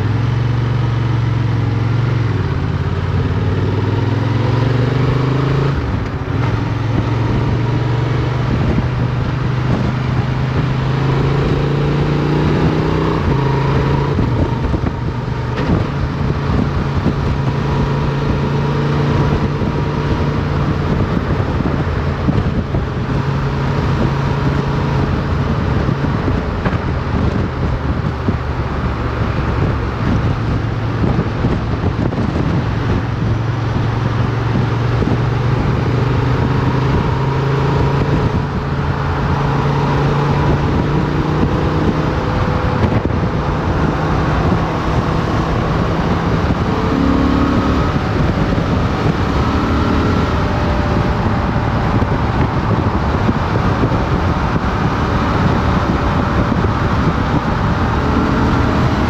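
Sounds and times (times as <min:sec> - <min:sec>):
wind noise on microphone: 0:00.0 - 0:59.0
motorcycle engine running: 0:05.7 - 0:59.0.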